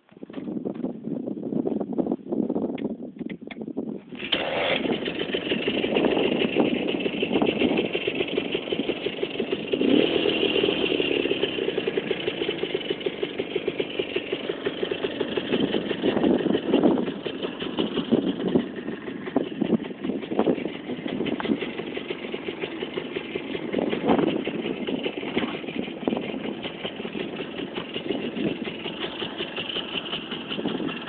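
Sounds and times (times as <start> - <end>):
motorcycle engine pulsing: 3.2 - 31.0.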